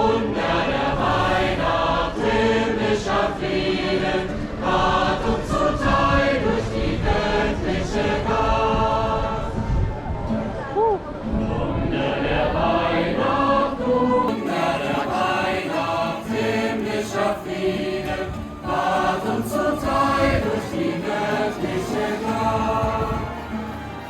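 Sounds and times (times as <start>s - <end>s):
choir singing: 0.0s - 10.4s, 11.4s - 24.0s.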